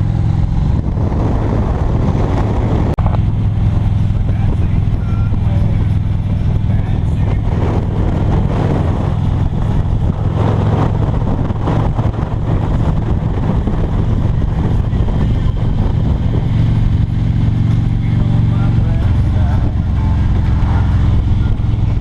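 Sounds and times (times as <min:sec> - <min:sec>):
vehicle engine running: 0:00.0 - 0:22.0
wind and road noise: 0:00.0 - 0:22.0.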